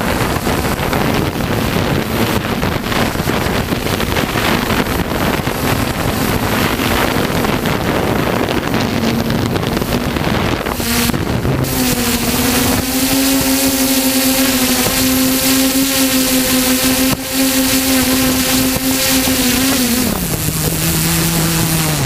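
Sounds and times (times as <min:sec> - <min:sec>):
drone motors droning: 0:00.0 - 0:22.0
rushing prop-wash noise: 0:00.0 - 0:22.0.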